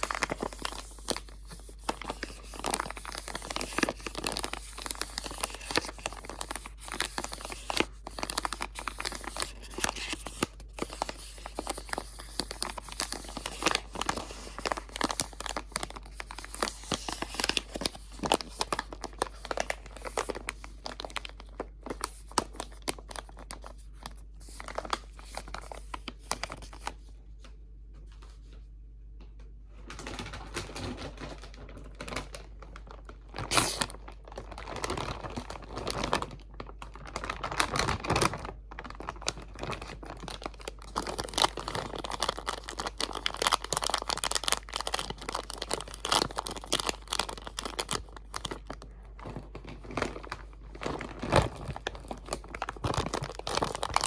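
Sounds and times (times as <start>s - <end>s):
crinkly material crackling: 0.0s - 27.2s, 29.8s - 54.0s.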